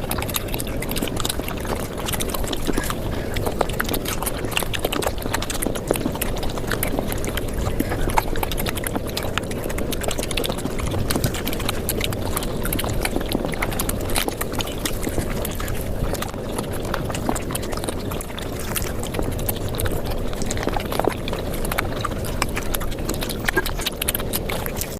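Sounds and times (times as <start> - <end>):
sped-up chewing sounds: 0.0 - 24.9.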